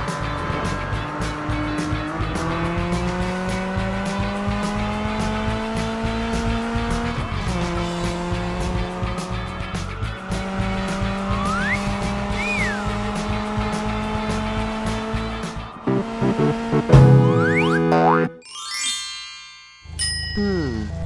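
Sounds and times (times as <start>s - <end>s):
cartoon monster truck engine revving: 0.0s - 18.3s
background music with steady beat: 0.0s - 18.4s.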